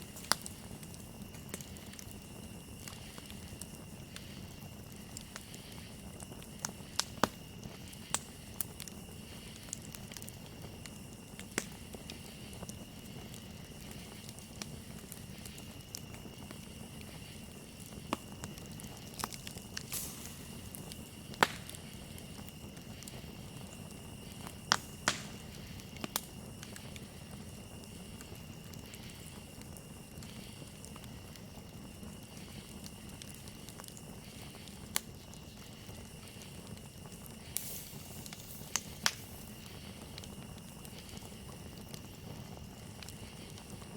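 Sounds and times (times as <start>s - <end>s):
campfire crackling and popping: 0.0s - 43.9s
crickets trilling: 0.0s - 43.9s
low hiss of flames: 0.0s - 43.9s.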